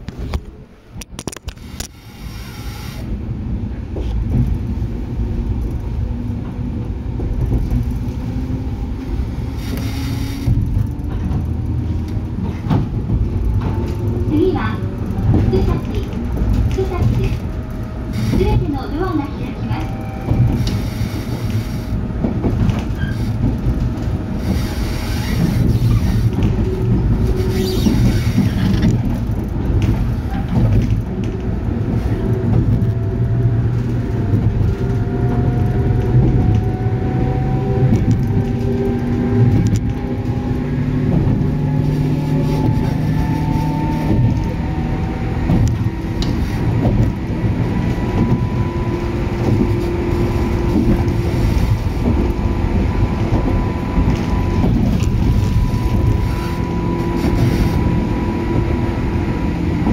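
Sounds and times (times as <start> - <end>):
wheels rumbling on track: 0.0 - 59.9
electric train motors whining: 1.4 - 3.2, 8.7 - 12.5, 13.3 - 59.9.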